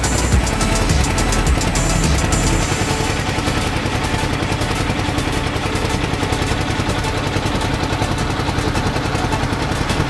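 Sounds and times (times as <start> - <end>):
boat engine pulsing: 0.0 - 10.0.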